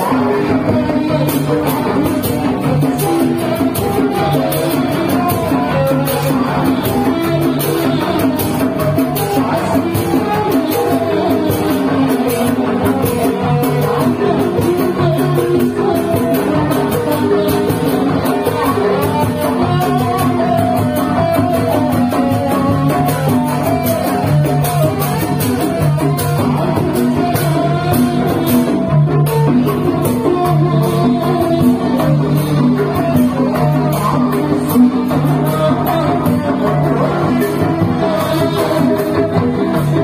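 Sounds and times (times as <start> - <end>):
person singing over drums: 0.0 - 40.0.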